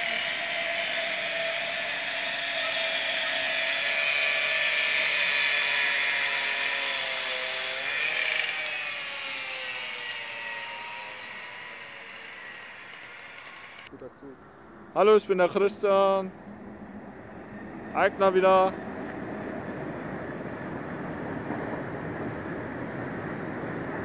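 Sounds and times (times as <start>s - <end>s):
electric train motors whining: 0.0s - 24.0s.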